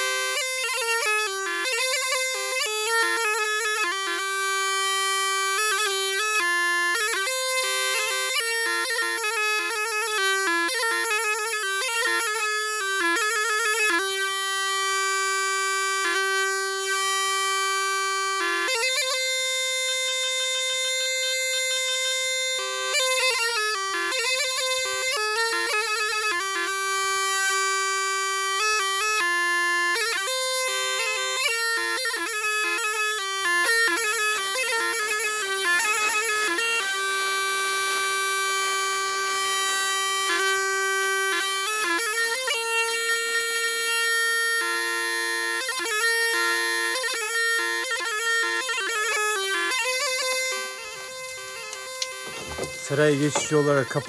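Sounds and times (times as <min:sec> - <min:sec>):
bagpipe melody: 0:00.0 - 0:54.0.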